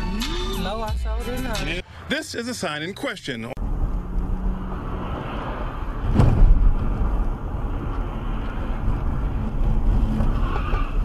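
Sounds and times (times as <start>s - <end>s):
car road and engine noise: 0.2s - 11.0s.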